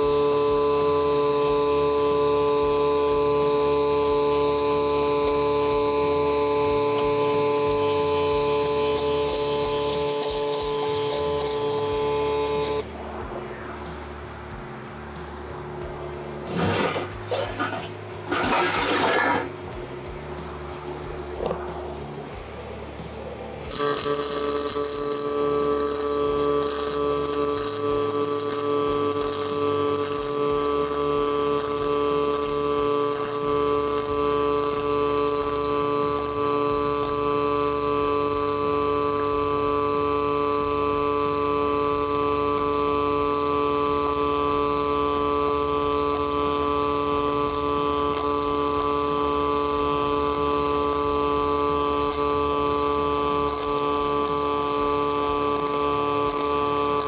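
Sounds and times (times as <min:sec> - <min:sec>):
welding arc buzzing with crackling: 0:00.0 - 0:13.4, 0:14.0 - 0:57.0.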